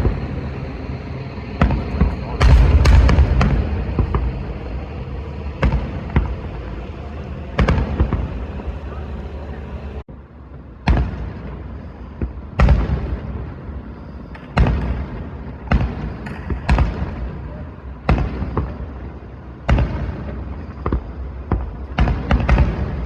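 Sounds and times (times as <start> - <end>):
fireworks bangs: 0.0 - 23.0
low background noise: 0.0 - 23.0.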